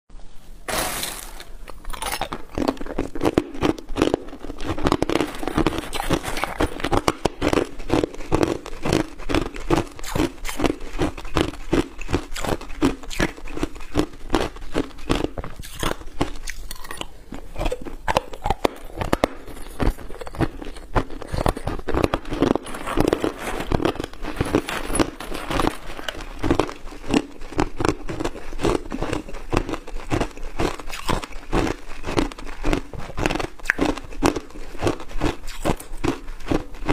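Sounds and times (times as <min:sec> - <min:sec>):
ice crunching while chewed: 0:00.7 - 0:36.9.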